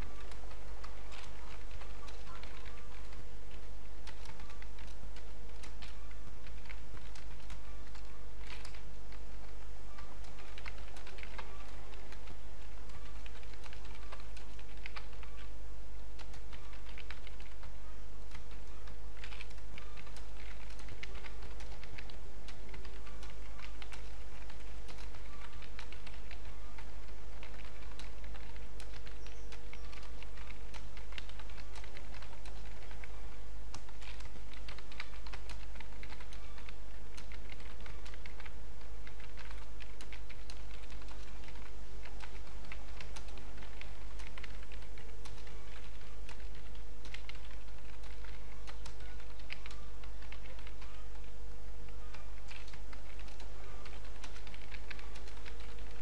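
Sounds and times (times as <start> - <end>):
keyboard typing: 0.0 - 56.0
steady low hum: 0.0 - 56.0.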